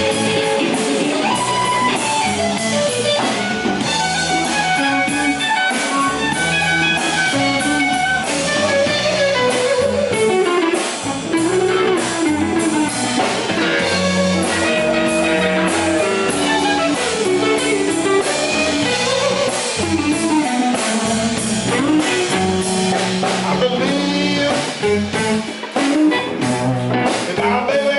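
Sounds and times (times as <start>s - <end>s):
blues band playing: 0.0s - 27.9s
electric guitar bending notes: 0.0s - 27.9s.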